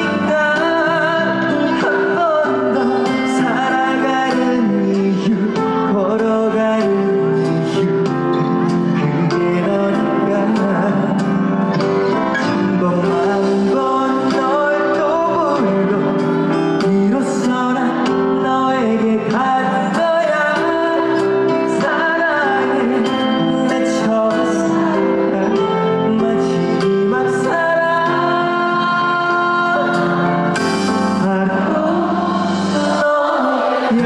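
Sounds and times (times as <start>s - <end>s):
instrumental backing music: 0.0s - 34.0s
man singing: 0.0s - 34.0s.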